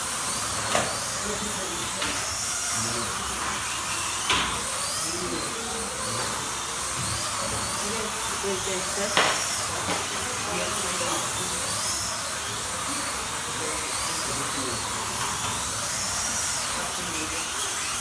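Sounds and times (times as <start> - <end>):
slot car motors whining: 0.0 - 18.0.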